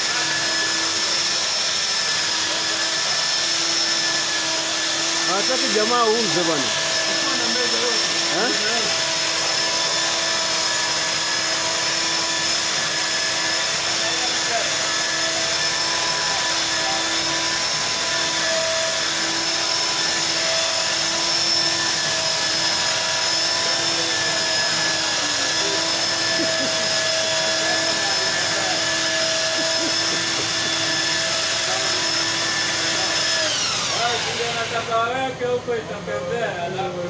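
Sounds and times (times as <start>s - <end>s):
belt sander on wood: 0.0s - 37.0s.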